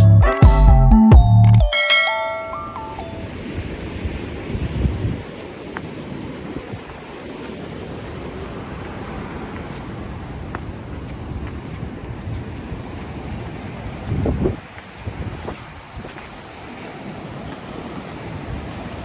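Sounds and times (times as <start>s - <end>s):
ocean surf: 1.7s - 19.0s
wind buffeting microphone: 2.9s - 19.0s.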